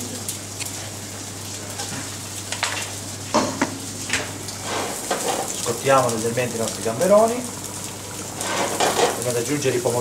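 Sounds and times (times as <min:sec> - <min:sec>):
prawns sizzling in hot oil: 0:00.0 - 0:10.0.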